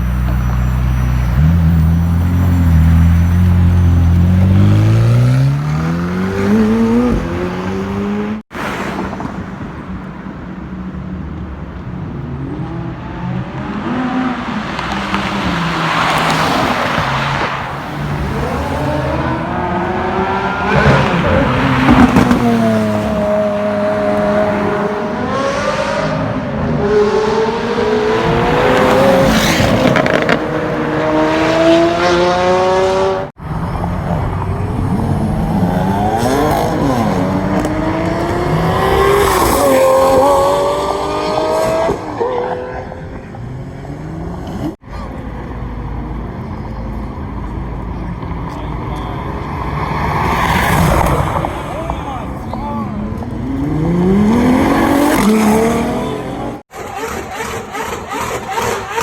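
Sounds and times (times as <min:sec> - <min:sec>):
supercar engines revving: 0:00.0 - 0:08.9, 0:11.3 - 0:59.0.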